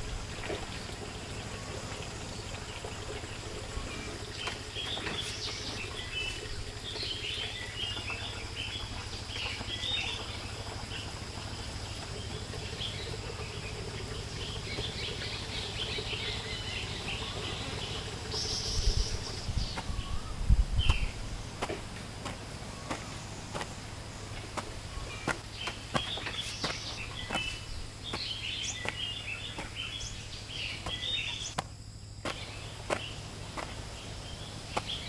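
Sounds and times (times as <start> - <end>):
rustle: 0.0 - 13.8, 14.4 - 35.0
birds chirping: 0.0 - 35.0
high insect drone: 0.0 - 35.0.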